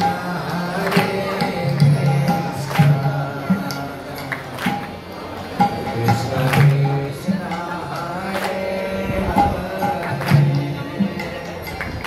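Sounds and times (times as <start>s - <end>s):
devotional singing: 0.0s - 4.9s, 5.6s - 12.0s.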